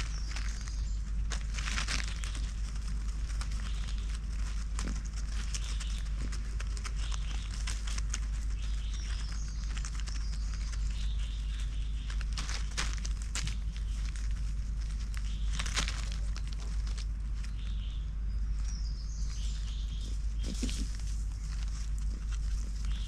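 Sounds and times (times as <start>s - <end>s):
dry leaves crackling underfoot: 0.0s - 23.0s
steady low rumble: 0.0s - 23.0s.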